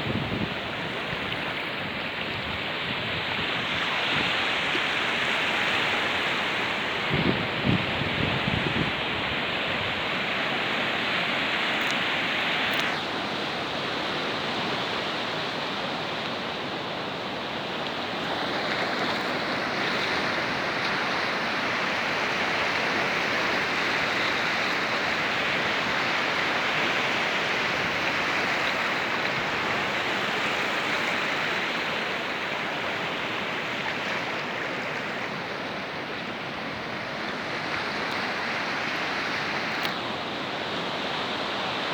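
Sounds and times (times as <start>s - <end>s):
running water from waterfall: 0.0s - 41.9s.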